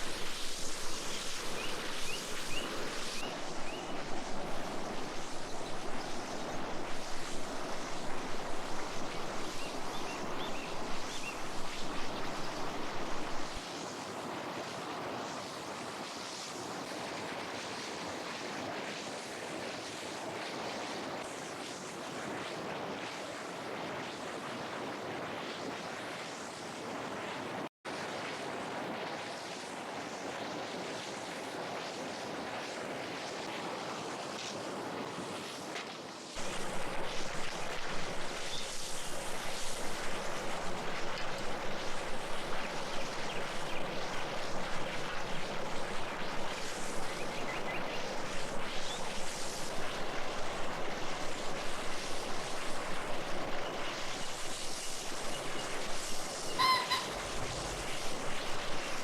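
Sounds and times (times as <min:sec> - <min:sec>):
river water flowing: 0:00.0 - 0:21.2, 0:26.6 - 0:59.0.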